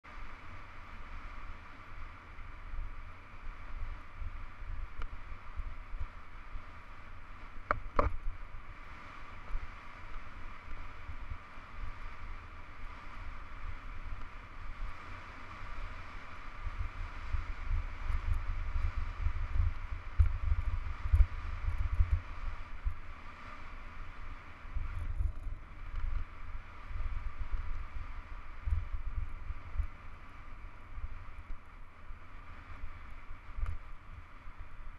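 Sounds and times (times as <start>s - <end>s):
bike tyres rolling on gravel: 0.2s - 34.9s
wind buffeting microphone: 1.0s - 34.9s.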